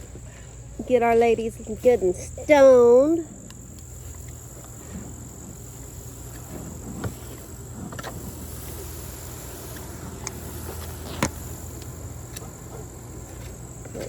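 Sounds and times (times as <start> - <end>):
high insect buzz: 0.0 - 14.0
wind rumble: 0.0 - 14.0.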